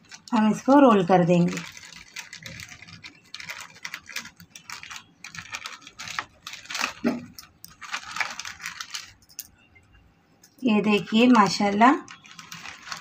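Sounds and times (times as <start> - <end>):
plastic sheet crinkling: 0.0 - 9.4, 10.9 - 13.0.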